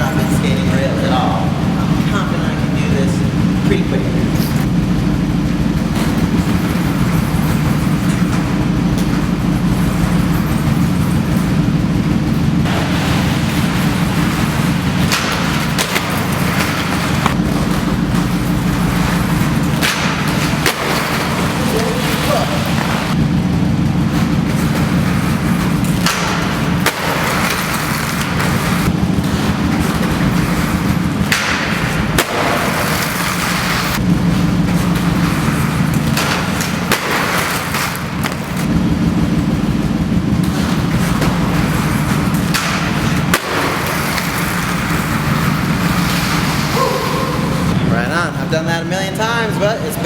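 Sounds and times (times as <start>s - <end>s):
car engine idling: 0.0s - 50.0s
skate wheels rolling on pavement: 0.0s - 50.0s
skates striking metal rail: 0.0s - 50.0s.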